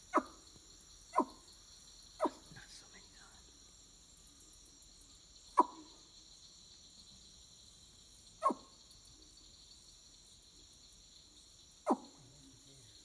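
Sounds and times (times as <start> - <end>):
night insects chorus: 0.0 - 13.0.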